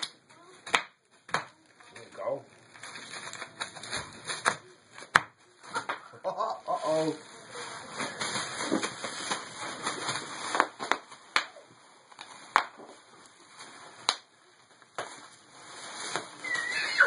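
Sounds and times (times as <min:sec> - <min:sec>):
bubble wrap popping: 0:00.0 - 0:17.0
bubble wrap crinkling underfoot: 0:00.3 - 0:17.0.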